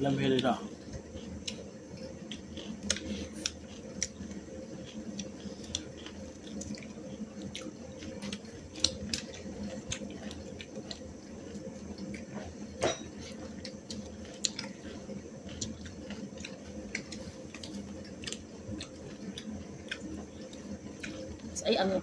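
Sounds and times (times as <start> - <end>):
steady low hum: 0.0 - 22.0
wet chewing and mouth clicks: 0.8 - 12.6, 13.3 - 21.6.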